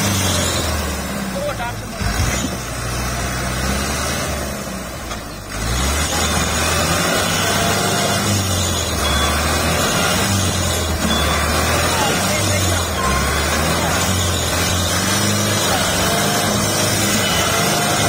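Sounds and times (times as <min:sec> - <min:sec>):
tractor diesel engine labouring: 0:00.0 - 0:18.0.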